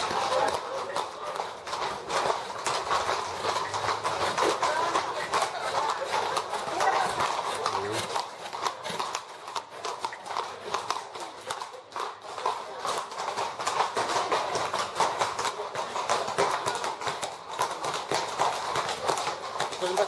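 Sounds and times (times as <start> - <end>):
horse hooves on stone street: 0.0 - 20.0.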